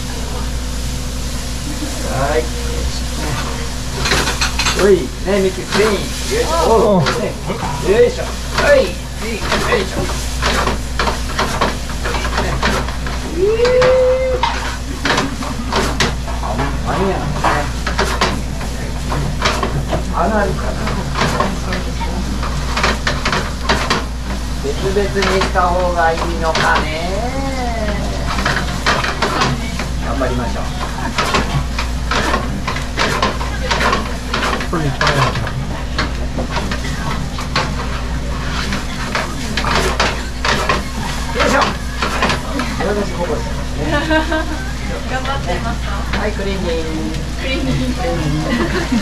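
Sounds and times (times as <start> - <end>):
food sizzling: 0.0 - 49.0
steady low hum: 0.0 - 49.0
utensil scraping a pan: 3.2 - 27.2, 27.8 - 43.6.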